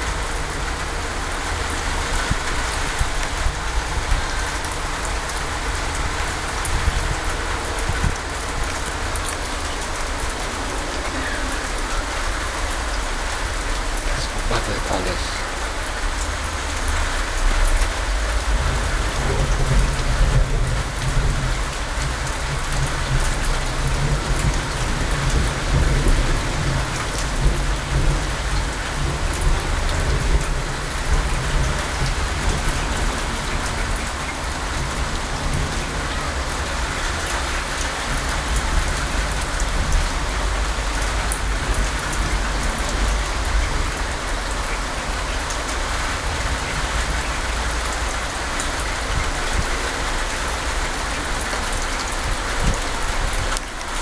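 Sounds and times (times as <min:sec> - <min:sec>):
thunder rumbling: 0:00.0 - 0:15.4, 0:16.0 - 0:53.6
heavy rain falling: 0:00.0 - 0:54.0.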